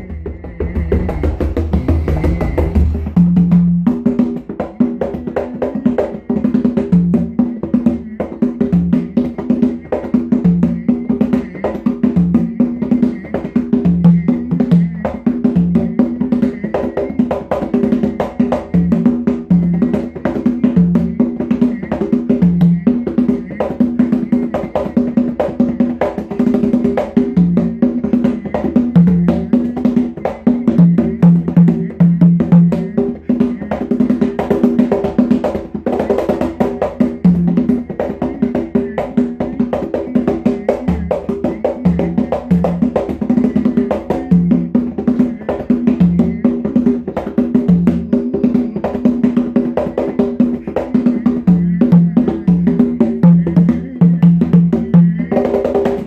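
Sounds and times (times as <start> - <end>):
congas played by hand: 0.0 - 56.0.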